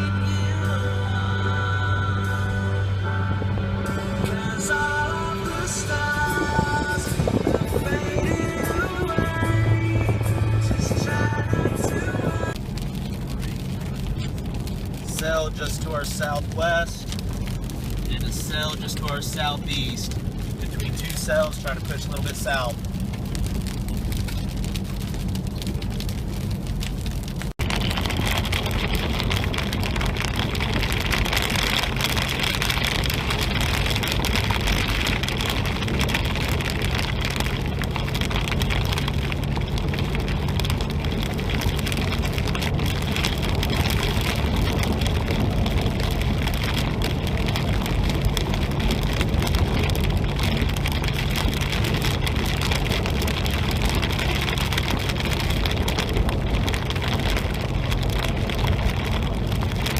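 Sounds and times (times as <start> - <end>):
road and engine hum: 0.0 - 59.9
heavy rain on car roof: 3.3 - 59.9.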